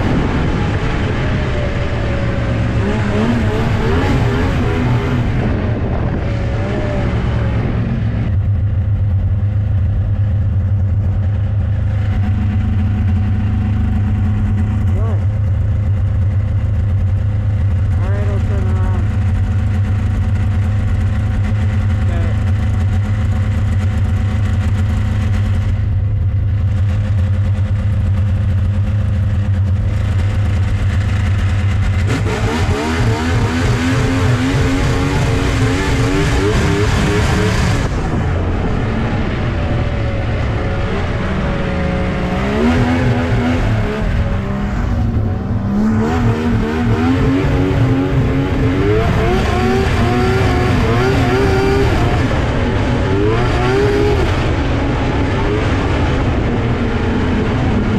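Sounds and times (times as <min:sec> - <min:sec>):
snowmobile engine revving: 0:00.0 - 0:08.4, 0:09.6 - 0:57.9.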